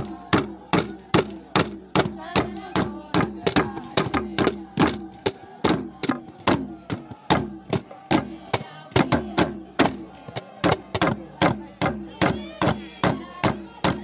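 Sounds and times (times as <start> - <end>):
drums beaten in dance rhythm: 0.0 - 14.0.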